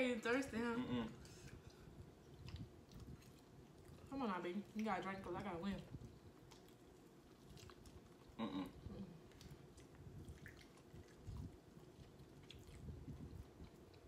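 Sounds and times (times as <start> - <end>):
quiet chewing and mouth clicks: 1.1 - 14.0.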